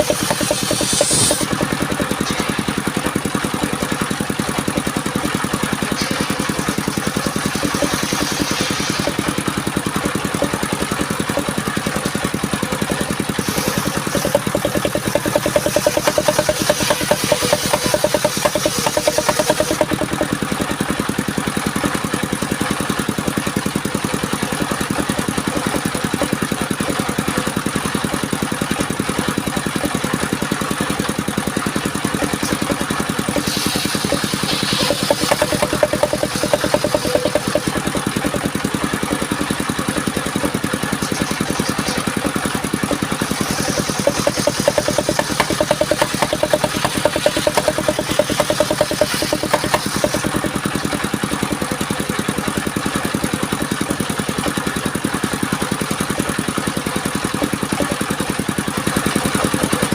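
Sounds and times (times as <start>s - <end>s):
sawmill engine pulsing: 0.0s - 59.9s.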